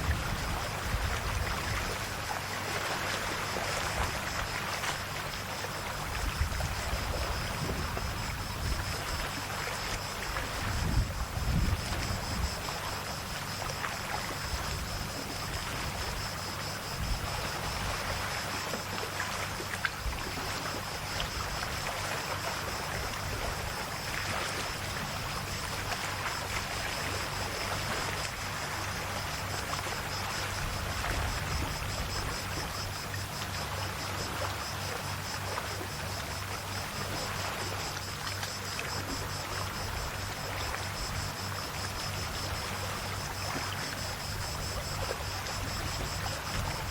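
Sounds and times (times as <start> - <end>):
small waves lapping at shore: 0.0 - 46.9.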